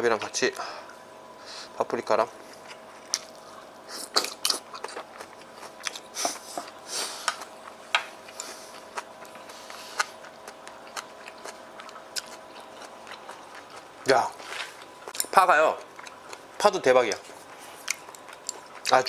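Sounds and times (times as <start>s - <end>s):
faint steady hum: 0.0s - 19.0s
person chewing food: 2.5s - 16.6s, 17.2s - 19.0s.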